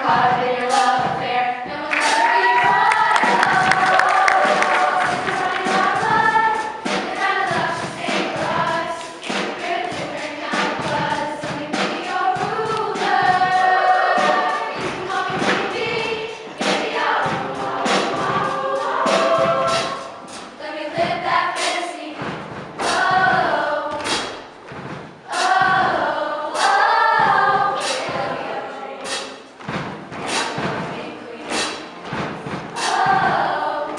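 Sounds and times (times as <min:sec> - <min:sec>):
group of voices singing wordlessly: 0:00.0 - 0:24.3, 0:25.2 - 0:29.5, 0:30.2 - 0:33.9
sharp percussive hits: 0:01.9 - 0:33.6.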